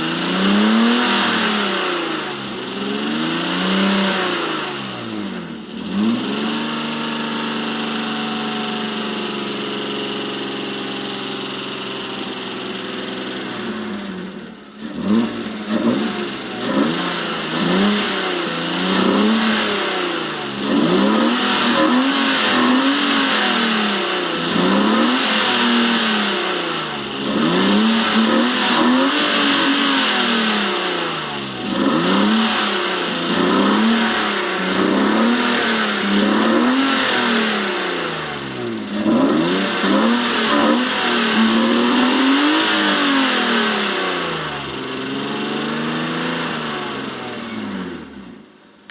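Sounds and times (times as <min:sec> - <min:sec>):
car engine revving: 0:00.0 - 0:08.3, 0:12.0 - 0:48.3.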